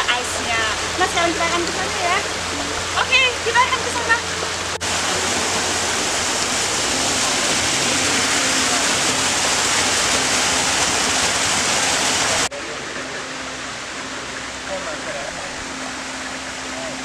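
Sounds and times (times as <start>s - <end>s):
outdoor background noise: 0.0s - 17.0s
waterfall rushing over rocks: 0.0s - 17.0s.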